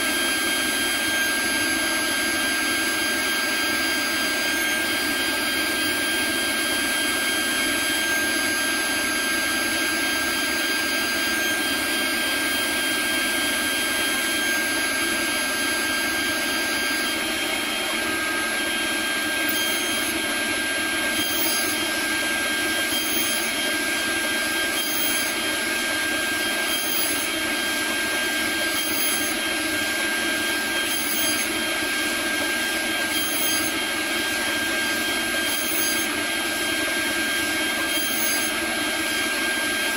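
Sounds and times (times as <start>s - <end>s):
router spindle whining: 0.0s - 39.9s
cutting plastic noise: 3.4s - 39.9s.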